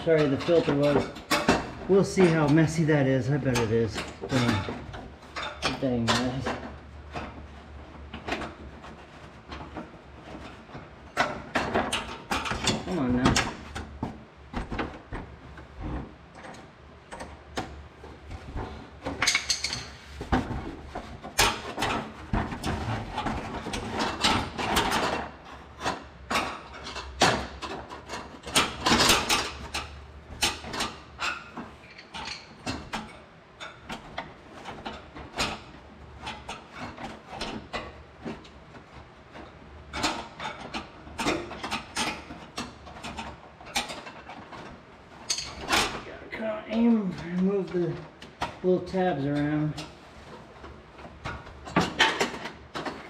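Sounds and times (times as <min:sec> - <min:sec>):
tools clicking and knocking: 0:00.0 - 0:02.8, 0:08.1 - 0:46.0, 0:49.4 - 0:53.0.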